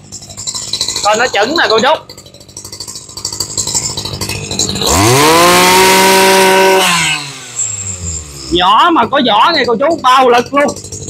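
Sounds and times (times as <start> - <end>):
brush cutter engine revving: 0.0 - 11.0.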